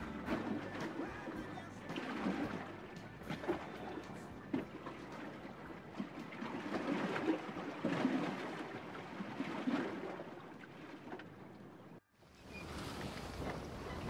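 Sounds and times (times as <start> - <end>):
water splashing against hull: 0.0 - 14.0.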